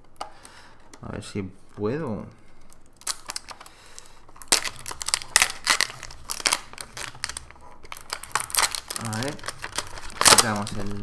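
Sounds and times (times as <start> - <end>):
plastic film crinkling and snapping: 0.1 - 11.0.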